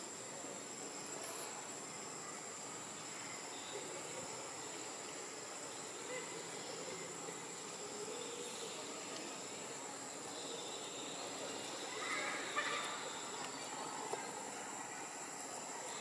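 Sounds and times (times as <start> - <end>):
insects droning: 0.0 - 16.0
outdoor ambience: 0.0 - 16.0.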